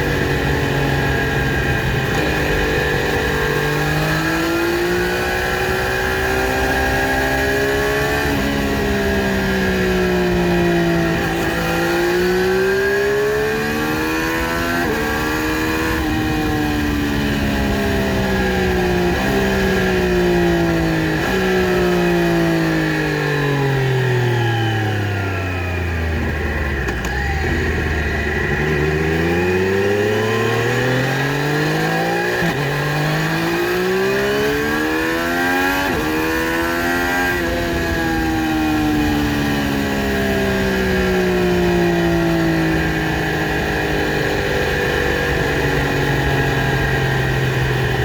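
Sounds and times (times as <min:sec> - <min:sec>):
motorcycle engine shifting gears: 0:00.0 - 0:48.0.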